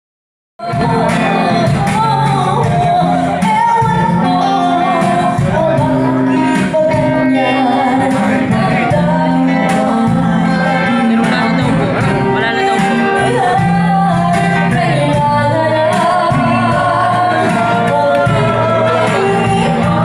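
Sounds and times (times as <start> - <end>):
guitar: 0.6 - 20.0
hand-drum beat: 0.6 - 20.0
women singing: 0.6 - 20.0.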